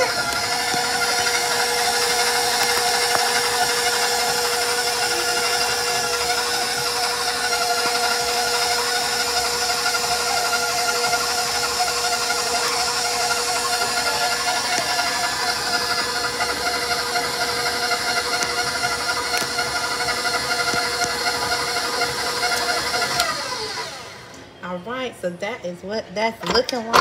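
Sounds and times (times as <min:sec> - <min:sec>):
beater turning through dough: 0:00.0 - 0:24.3
stand mixer motor whine: 0:00.0 - 0:24.4.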